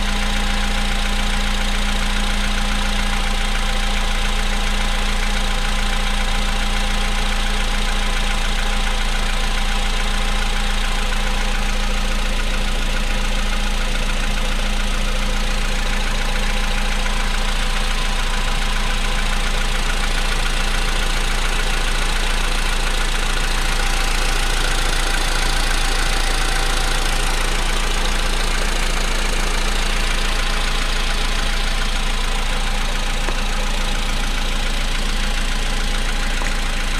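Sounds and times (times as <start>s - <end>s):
car engine idling with knocking: 0.0s - 36.9s.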